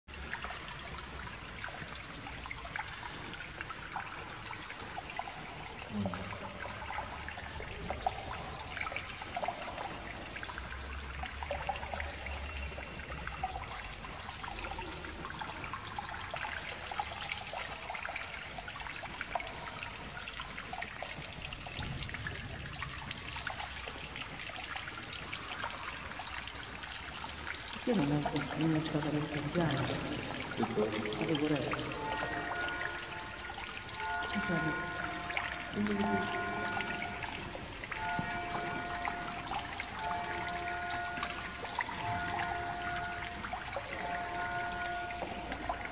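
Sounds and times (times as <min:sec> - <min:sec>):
water trickling: 0:00.0 - 0:45.9.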